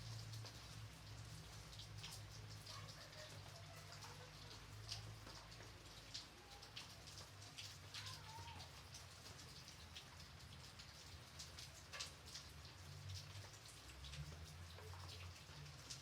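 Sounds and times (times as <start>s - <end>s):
light rain hiss: 0.0s - 16.0s
raindrops tapping: 0.0s - 16.0s.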